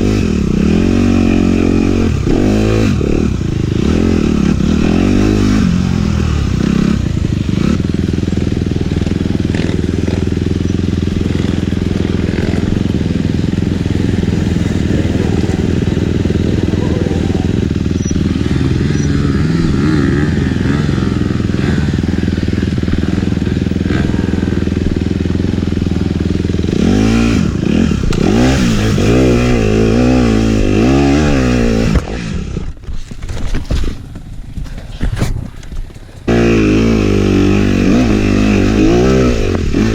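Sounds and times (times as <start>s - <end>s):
dirt bike engine revving: 0.0s - 32.9s, 36.1s - 39.9s.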